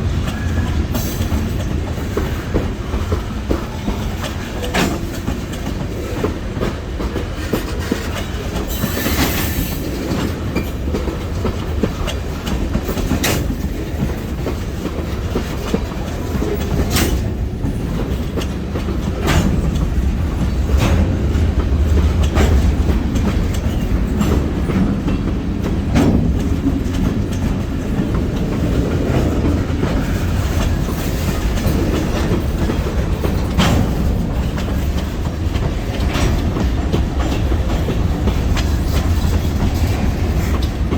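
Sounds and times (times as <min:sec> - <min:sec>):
freight train rumbling: 0:00.0 - 0:40.9
wheels clicking over rail joints: 0:00.0 - 0:40.9.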